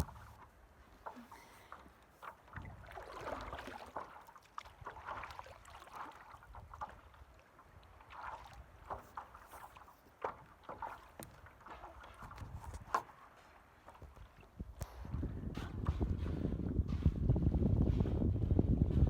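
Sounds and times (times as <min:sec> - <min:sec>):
low rumble of wind: 0:00.0 - 0:03.8, 0:04.6 - 0:09.4, 0:10.1 - 0:19.0
paddle strokes splashing water: 0:00.0 - 0:17.3.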